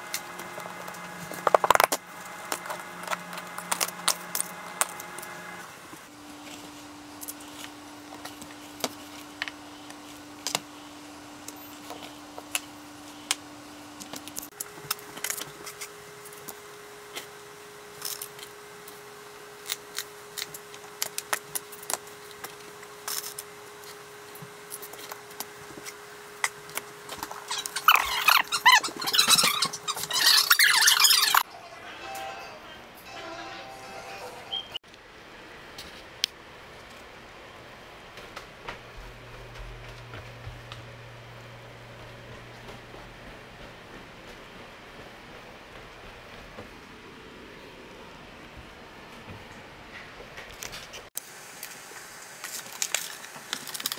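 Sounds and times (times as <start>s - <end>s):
steady hum: 0.0s - 53.6s.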